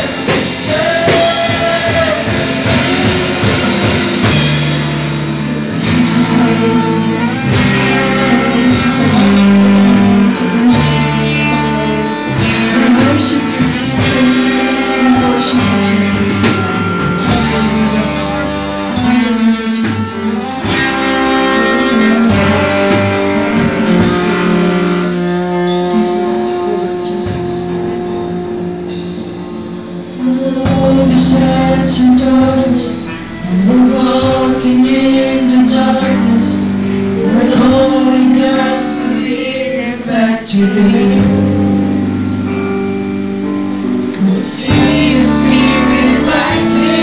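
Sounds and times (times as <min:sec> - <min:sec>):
electric guitars: 0:00.0 - 0:47.0.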